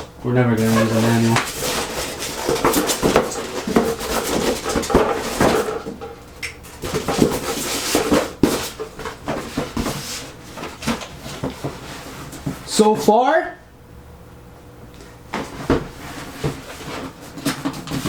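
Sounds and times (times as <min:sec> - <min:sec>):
cardboard box and packing rustling: 0:00.6 - 0:06.0, 0:06.6 - 0:13.0, 0:15.3 - 0:18.0.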